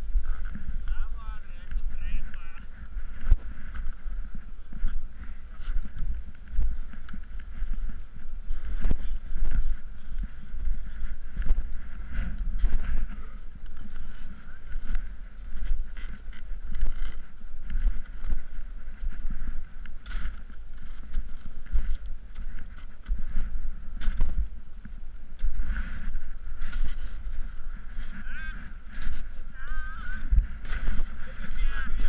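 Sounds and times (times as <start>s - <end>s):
muffled buffeting and rustling: 0.0s - 32.0s.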